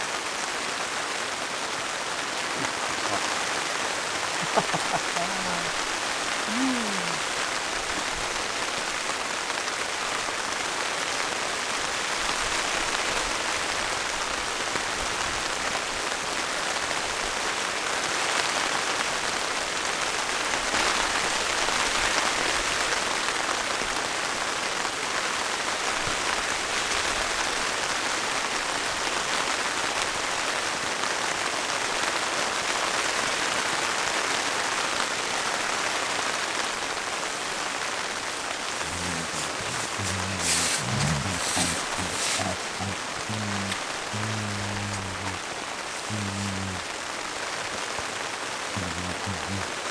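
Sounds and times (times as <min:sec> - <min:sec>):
steady rain falling: 0:00.0 - 0:33.4, 0:34.4 - 0:49.9.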